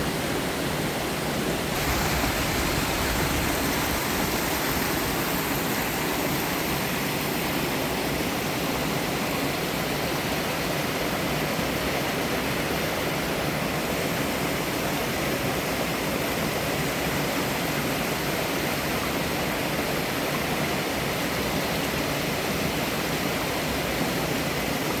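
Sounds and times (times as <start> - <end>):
waterfall pouring over rocks: 0.0 - 25.0.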